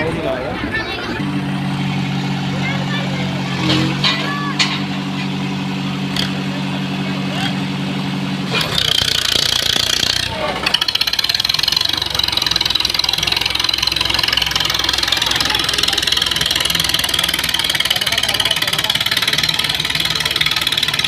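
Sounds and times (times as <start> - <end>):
diesel tractor engines running: 0.0 - 21.0.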